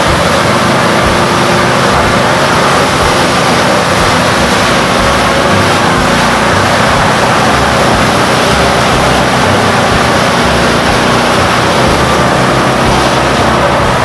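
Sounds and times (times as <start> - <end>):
rush of water spray: 0.0 - 14.0
vehicle engine running: 0.0 - 14.0.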